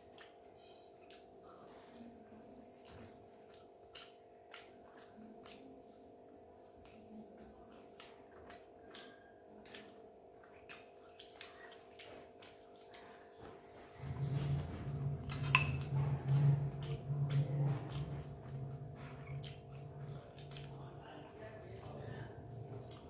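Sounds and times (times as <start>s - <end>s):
low electrical hum: 0.0s - 23.0s
mouth clicks and chewing: 0.0s - 23.0s.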